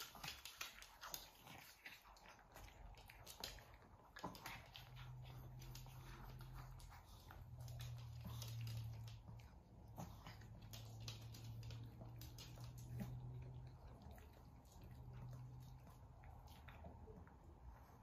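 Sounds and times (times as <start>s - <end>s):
cat nibbling: 0.0s - 18.0s
low steady hum: 0.0s - 18.0s.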